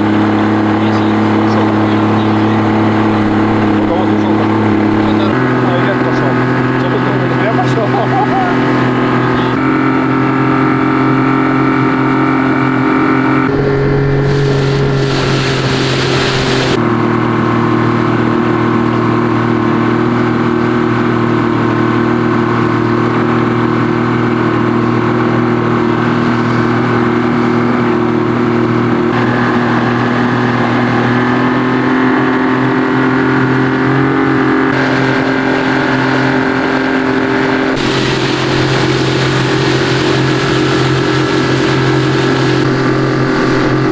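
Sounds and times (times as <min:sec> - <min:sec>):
outboard motor running: 0:00.0 - 0:43.9.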